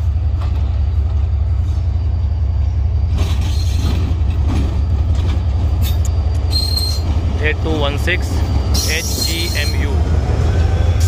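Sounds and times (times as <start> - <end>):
diesel train rumbling: 0.0 - 11.0
train rattling and clanking: 0.0 - 11.0.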